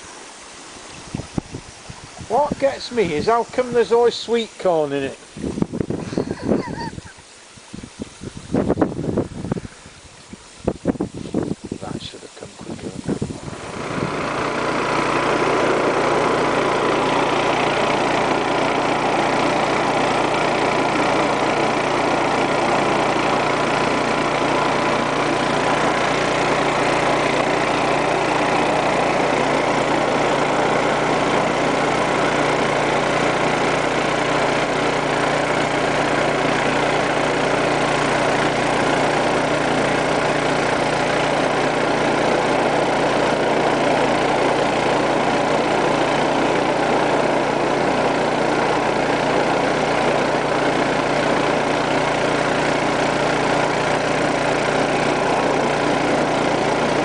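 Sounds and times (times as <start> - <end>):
drain-jetting machine engine running: 0.0 - 57.0
high-pressure hose flushing water: 0.0 - 57.0.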